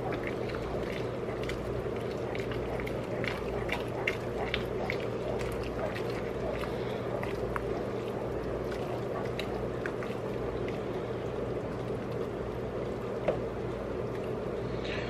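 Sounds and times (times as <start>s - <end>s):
spoon stirring soup sloshing: 0.0s - 14.4s.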